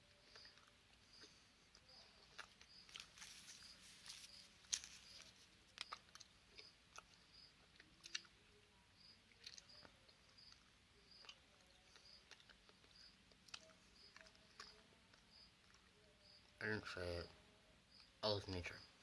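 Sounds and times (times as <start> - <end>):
close-up chewing: 0.0 - 17.1.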